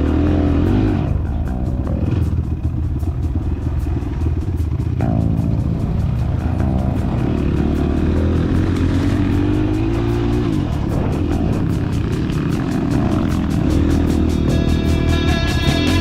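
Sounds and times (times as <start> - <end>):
background music with steady beat: 0.0 - 16.0
motorcycle engine running: 0.0 - 16.0.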